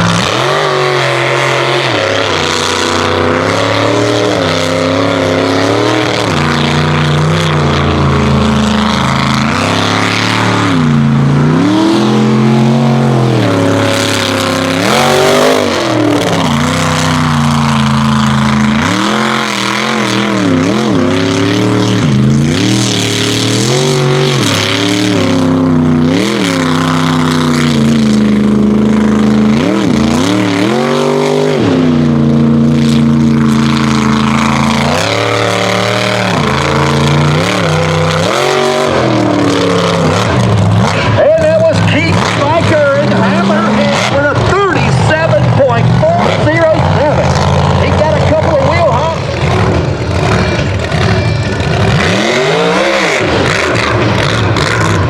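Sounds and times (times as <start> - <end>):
truck engine racing: 0.0 - 55.0.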